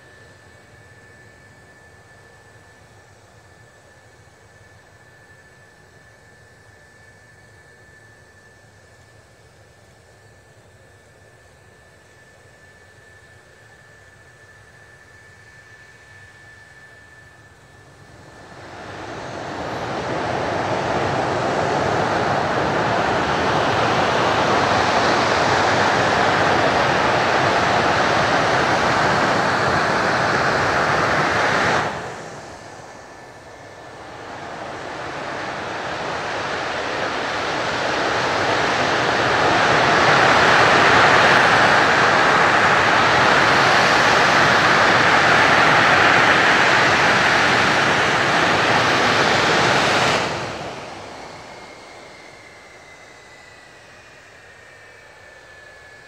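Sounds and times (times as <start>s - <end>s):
loud jet engine roar: 0.0s - 56.0s.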